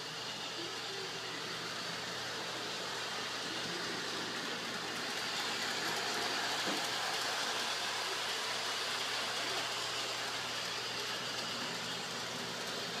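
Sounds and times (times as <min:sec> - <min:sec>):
toy train motor whirring: 0:00.0 - 0:13.0.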